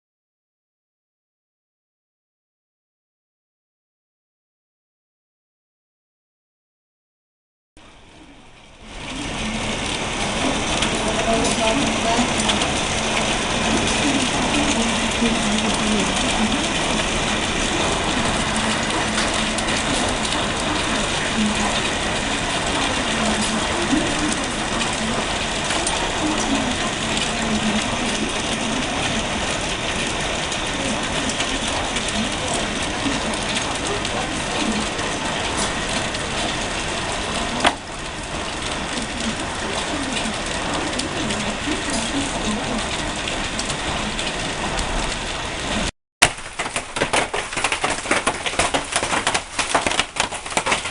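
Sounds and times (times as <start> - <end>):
rain: 7.8 - 50.9
hailstones clattering: 8.9 - 50.9.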